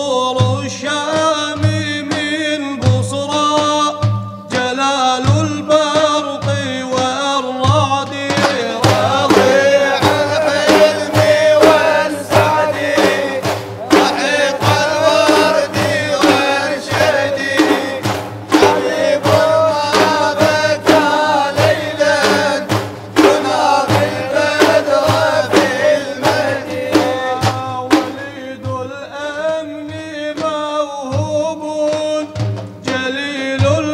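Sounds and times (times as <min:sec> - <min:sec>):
frame drums struck by hand: 0:00.0 - 0:33.9
man chanting: 0:00.0 - 0:33.9.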